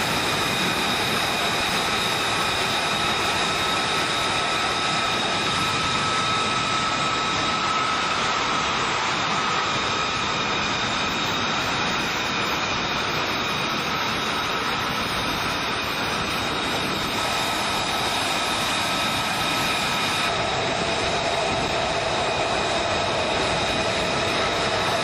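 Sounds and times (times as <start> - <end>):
jet engine idling: 0.0 - 25.0
lower engine whine: 0.0 - 25.0.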